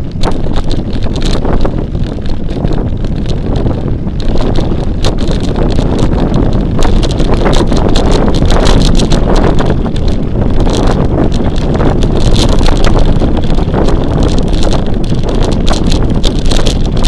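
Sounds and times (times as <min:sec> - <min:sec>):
bike clicks and knocks: 0:00.0 - 0:17.0
wind buffeting microphone: 0:00.0 - 0:17.0.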